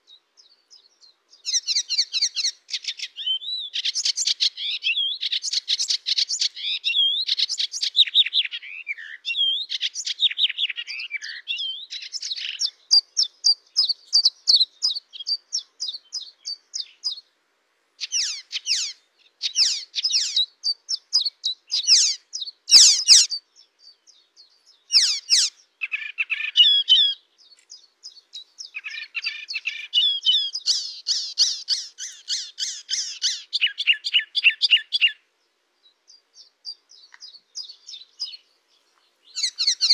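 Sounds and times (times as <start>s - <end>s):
warbler singing: 0.0s - 17.3s, 18.0s - 39.9s.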